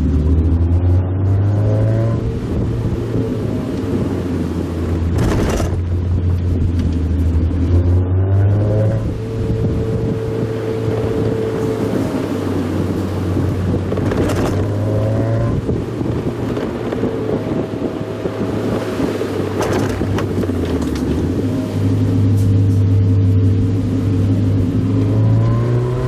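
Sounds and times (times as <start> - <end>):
car engine running: 0.0 - 25.9
wind and road noise: 0.0 - 26.0.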